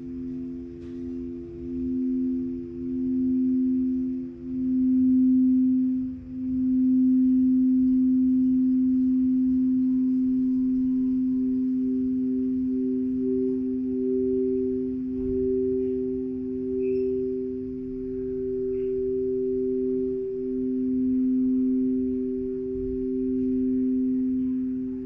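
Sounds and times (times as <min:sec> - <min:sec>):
higher singing bowl pulsing waver: 0:00.0 - 0:25.0
singing bowl deep ringing: 0:00.0 - 0:25.0.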